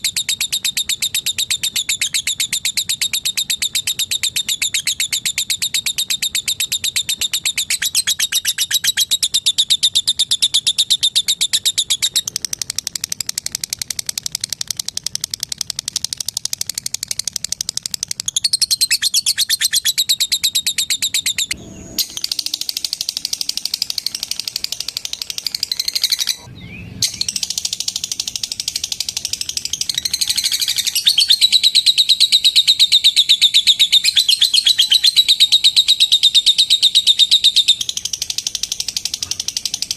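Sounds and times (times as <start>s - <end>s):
lovebird ticking chirps: 0.0s - 39.9s.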